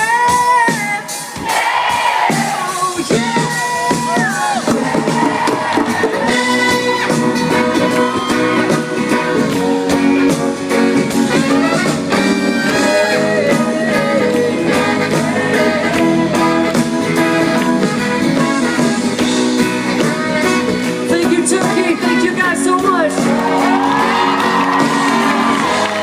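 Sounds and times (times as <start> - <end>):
live band playing: 0.0 - 26.0
lead guitar line: 3.0 - 26.0.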